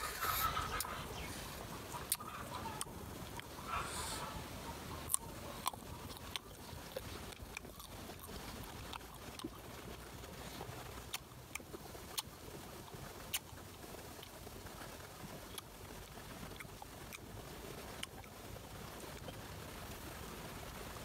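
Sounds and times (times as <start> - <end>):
chewing with sharp crunches: 0.0 - 19.6.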